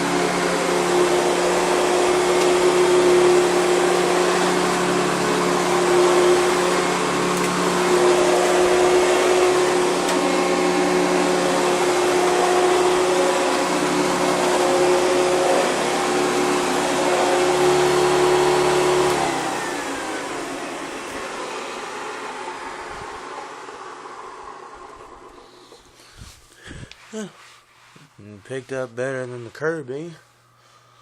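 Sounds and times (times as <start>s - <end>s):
vacuum cleaner running over carpet: 0.0s - 25.8s.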